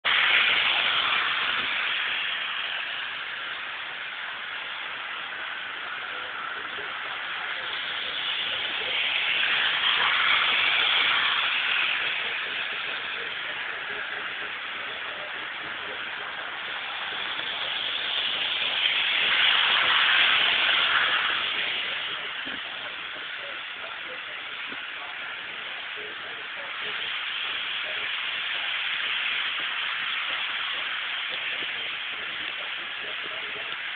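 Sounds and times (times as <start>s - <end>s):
model train whirring on track: 0.0s - 33.9s.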